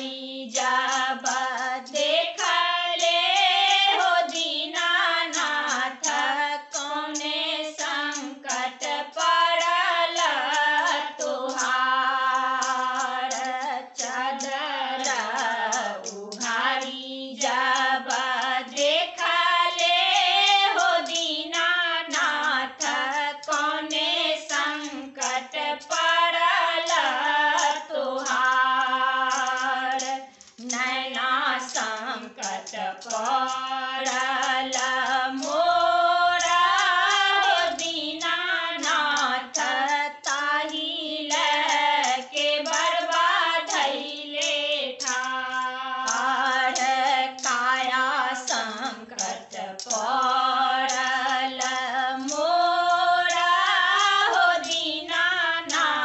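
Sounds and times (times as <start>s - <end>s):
women singing together: 0.0s - 56.0s.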